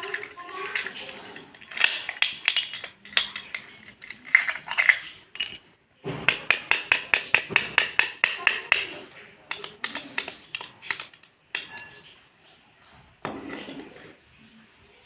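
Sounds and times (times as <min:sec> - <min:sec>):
padlock and keys clinking: 0:00.0 - 0:12.1.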